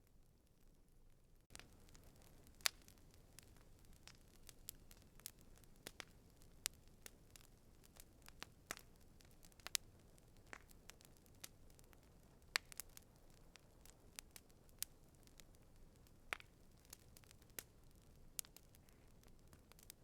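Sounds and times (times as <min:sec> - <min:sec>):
campfire crackling and popping: 0:00.5 - 0:20.0.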